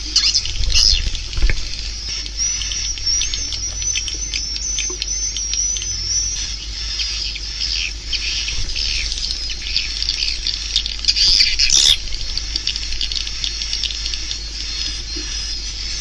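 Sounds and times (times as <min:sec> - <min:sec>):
steady low hum: 0:00.0 - 0:16.0
swiftlets chirping and trilling: 0:00.0 - 0:16.0.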